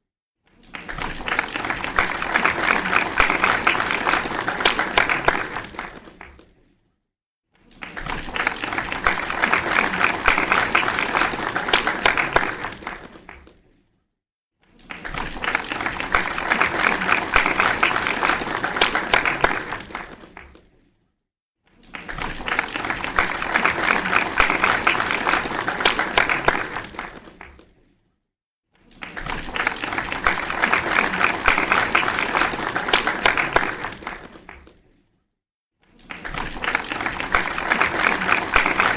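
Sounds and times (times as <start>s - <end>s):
crowd applause: 0.6s - 6.5s, 7.7s - 13.6s, 14.8s - 20.6s, 21.8s - 27.7s, 28.9s - 34.8s, 36.0s - 38.9s.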